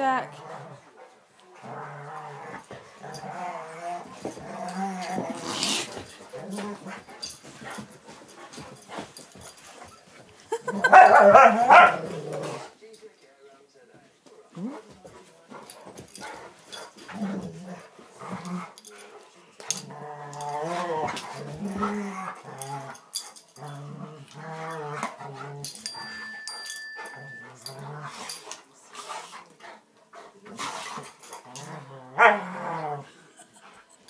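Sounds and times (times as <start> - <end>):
dogs growling: 0.2 - 12.8, 14.5 - 34.0.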